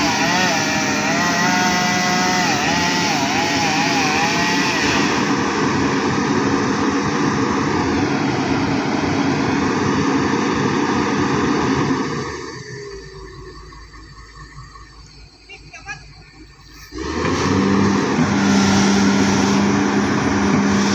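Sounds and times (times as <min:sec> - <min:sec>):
excavator diesel engine drone: 0:00.0 - 0:20.9.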